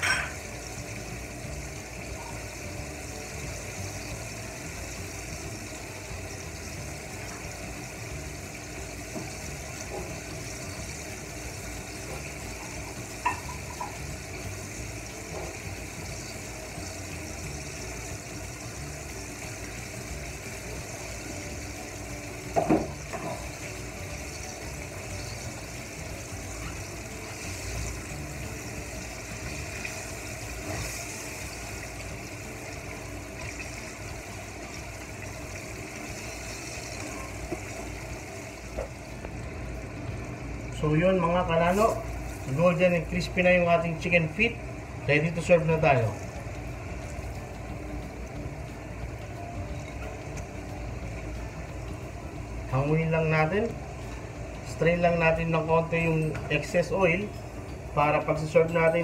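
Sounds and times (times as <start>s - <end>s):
chicken deep-frying in hot oil: 0.0s - 59.0s.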